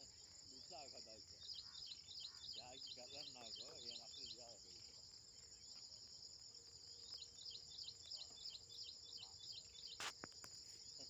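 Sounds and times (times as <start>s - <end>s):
cricket chorus: 0.0s - 11.0s.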